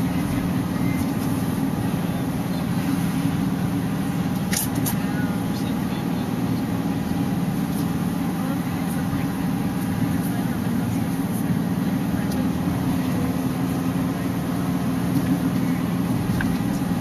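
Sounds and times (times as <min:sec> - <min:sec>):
van engine and tyre noise: 0:00.0 - 0:17.0.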